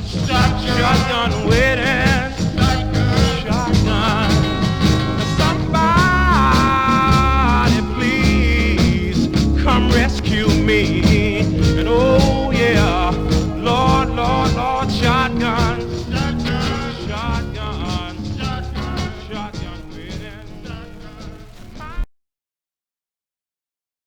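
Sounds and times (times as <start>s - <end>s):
soul song with full band: 0.0s - 22.0s.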